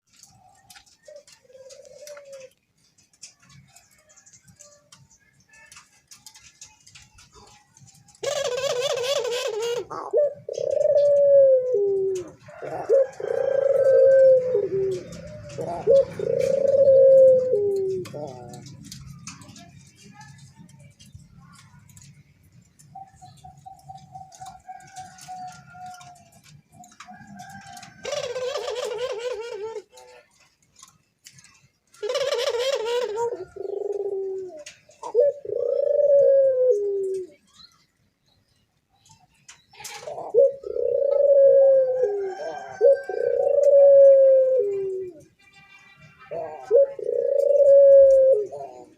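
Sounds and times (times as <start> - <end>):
dove cooing: 0.1 - 4.7, 6.4 - 22.1, 22.8 - 37.5, 39.9 - 45.4, 46.3 - 48.9.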